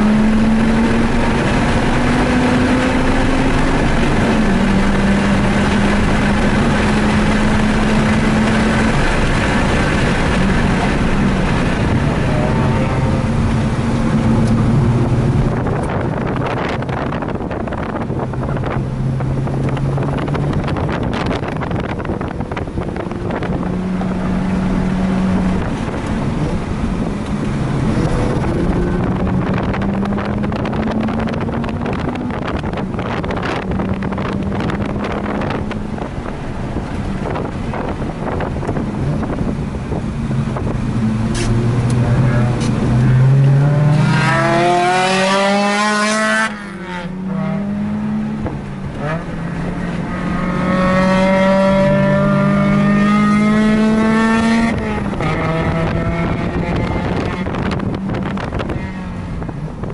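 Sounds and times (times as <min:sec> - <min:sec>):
rotary engine revving: 0:00.0 - 0:59.9
wind buffeting microphone: 0:00.0 - 0:59.9.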